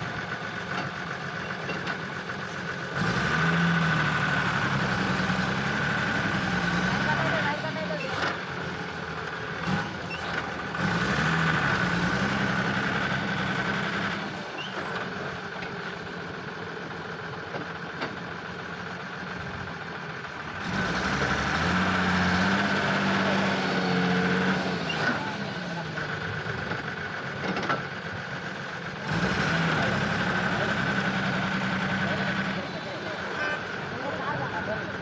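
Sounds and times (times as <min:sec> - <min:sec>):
diesel truck engine revving: 0:00.0 - 0:35.0.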